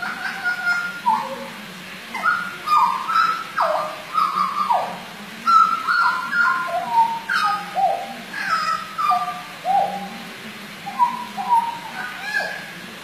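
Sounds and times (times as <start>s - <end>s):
bird singing whistled notes: 0.0s - 1.5s, 2.2s - 10.2s, 10.8s - 12.7s.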